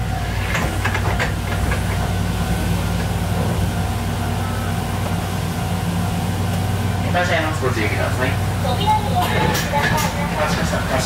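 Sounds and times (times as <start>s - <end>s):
tram equipment humming: 0.0s - 11.0s.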